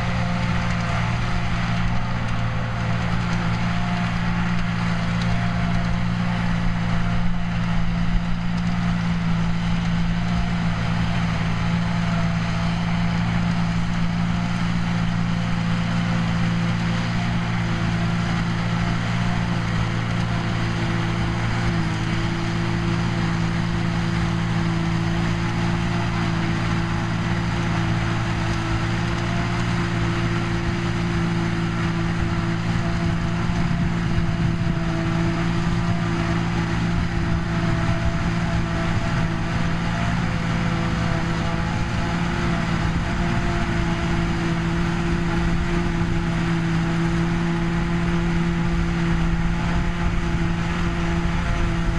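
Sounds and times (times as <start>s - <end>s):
tractor engines and forage harvester: 0.0s - 51.9s.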